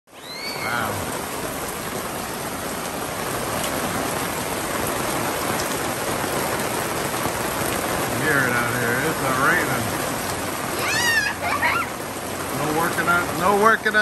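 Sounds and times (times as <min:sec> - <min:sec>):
heavy rain on awning and deck: 0:00.1 - 0:14.0.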